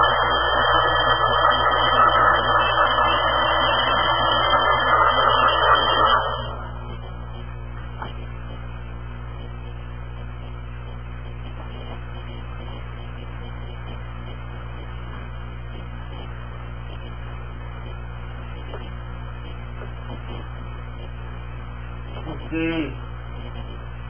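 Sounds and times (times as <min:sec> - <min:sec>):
low droning hum: 0:00.0 - 0:24.0.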